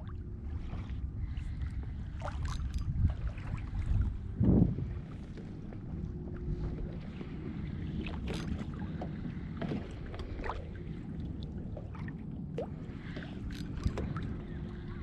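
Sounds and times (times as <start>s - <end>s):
steady low rumble: 0.0s - 15.0s
water lapping against hull: 0.0s - 15.0s.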